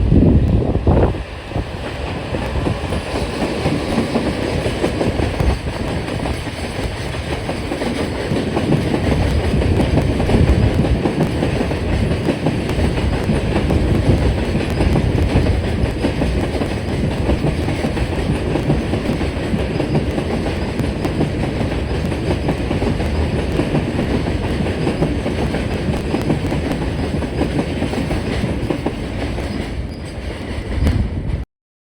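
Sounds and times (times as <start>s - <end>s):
freight train wheels clattering: 0.4s - 31.4s.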